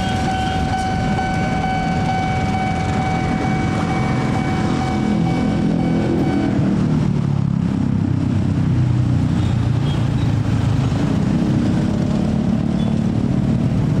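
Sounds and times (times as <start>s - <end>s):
many motorcycle engines rumbling: 0.0s - 14.0s.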